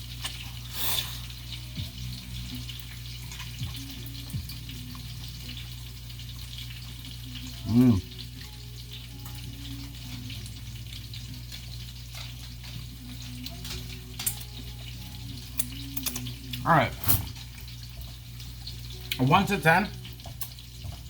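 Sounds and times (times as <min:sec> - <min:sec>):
fish sizzling in a frying pan: 0:00.0 - 0:21.0.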